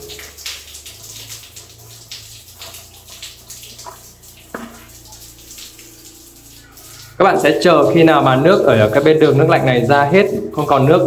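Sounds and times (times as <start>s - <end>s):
water stream splashing: 0.0s - 11.0s.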